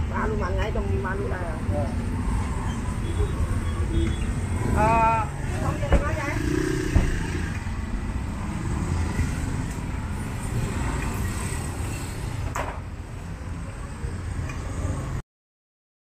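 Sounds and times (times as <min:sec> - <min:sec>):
scooters and rickshaws passing: 0:00.2 - 0:15.2.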